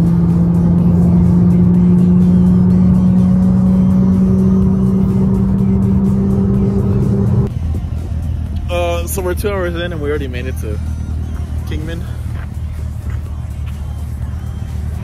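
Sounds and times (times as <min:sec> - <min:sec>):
car engine droning inside cabin: 0:00.0 - 0:15.0.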